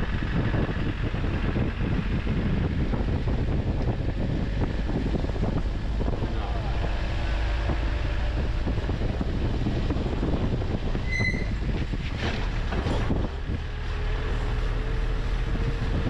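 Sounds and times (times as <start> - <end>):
steady low rumble: 0.0 - 16.0
wind buffeting microphone: 0.0 - 16.0.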